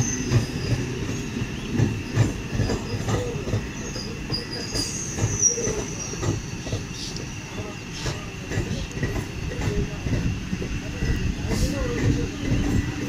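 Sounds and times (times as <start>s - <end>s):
steady train rumble: 0.0s - 13.0s
train wheels clacking over rail joints: 0.0s - 13.0s.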